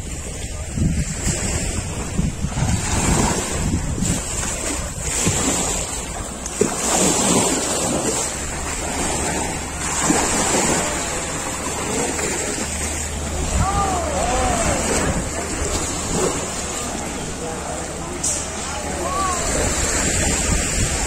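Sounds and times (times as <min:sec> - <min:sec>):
small waves washing onto beach: 0:00.0 - 0:21.0
wind buffeting microphone: 0:00.0 - 0:21.0.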